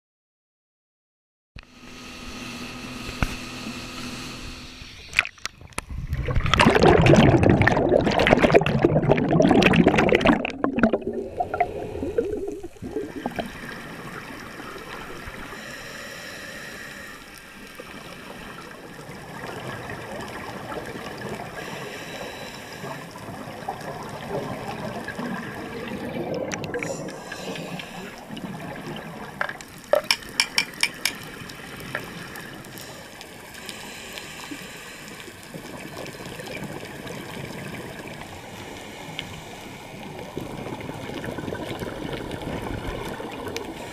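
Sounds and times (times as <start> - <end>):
muffled underwater hiss: 1.7 - 6.5, 10.2 - 43.9
underwater splashing: 5.0 - 43.9
scuba divers exhaled bubbles: 5.1 - 15.7, 17.6 - 43.9.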